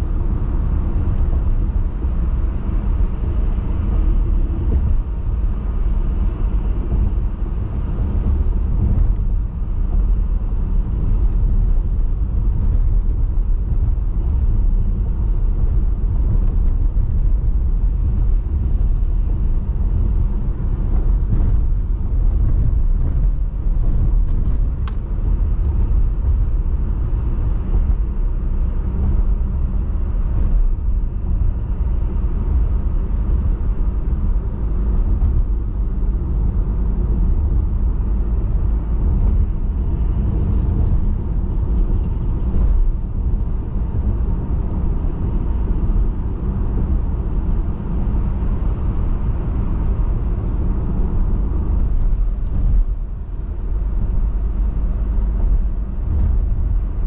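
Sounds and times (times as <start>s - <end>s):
car tyres and engine rumble: 0.0s - 57.0s.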